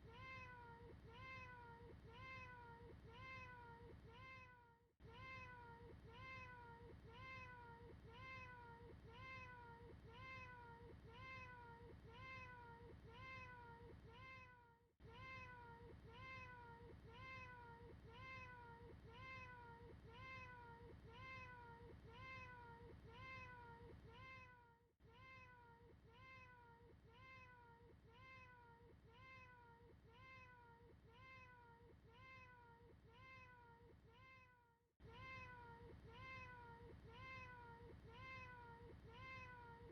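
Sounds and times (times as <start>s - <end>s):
faint cat meowing: 0.0s - 39.9s.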